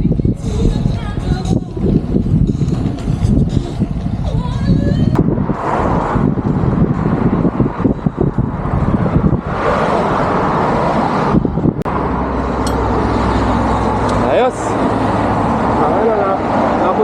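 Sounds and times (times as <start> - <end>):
road traffic passing: 0.0 - 17.0
wind buffeting microphone: 0.0 - 17.0.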